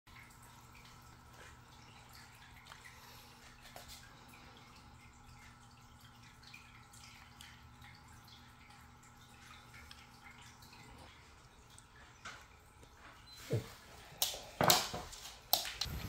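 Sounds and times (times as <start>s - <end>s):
low steady hum: 0.1s - 16.0s
rain drips: 0.1s - 16.0s.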